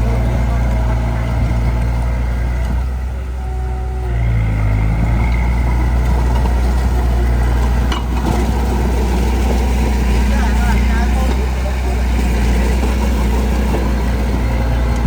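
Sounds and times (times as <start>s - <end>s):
heavy equipment engine running: 0.0s - 15.0s.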